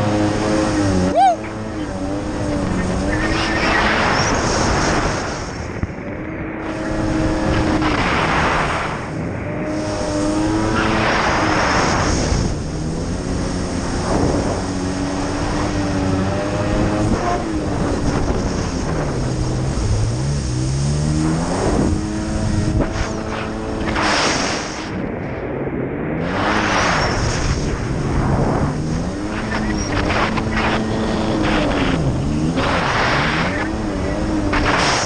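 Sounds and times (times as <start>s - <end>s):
personal watercraft engine running: 0.0s - 35.0s
wind and spray rushing: 0.0s - 35.0s.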